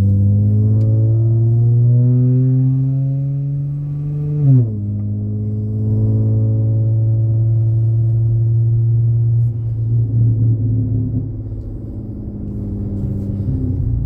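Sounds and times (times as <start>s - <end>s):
car exhaust droning: 0.0s - 14.0s.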